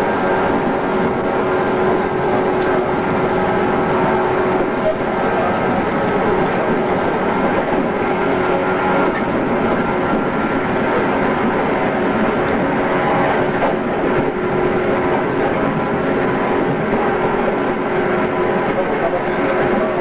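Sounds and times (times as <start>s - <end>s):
train motor and gear hum: 0.0s - 20.0s
train wheels rumbling on rail: 0.0s - 20.0s.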